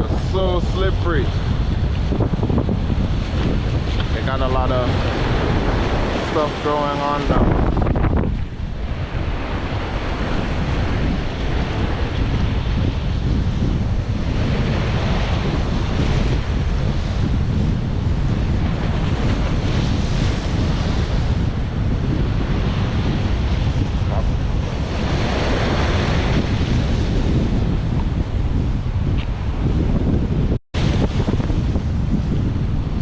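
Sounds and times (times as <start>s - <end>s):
ocean surf washing: 0.0s - 33.0s
wind buffeting microphone: 0.0s - 33.0s.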